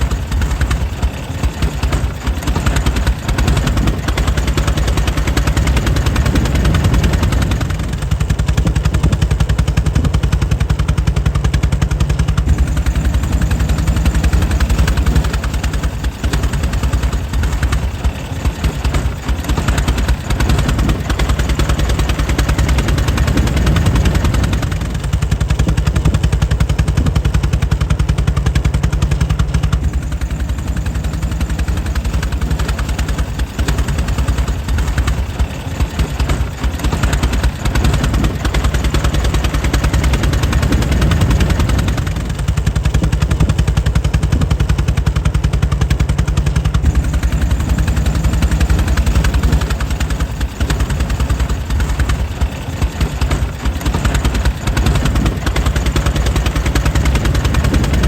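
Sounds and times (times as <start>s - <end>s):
engine running with rapid pops: 0.0s - 58.0s.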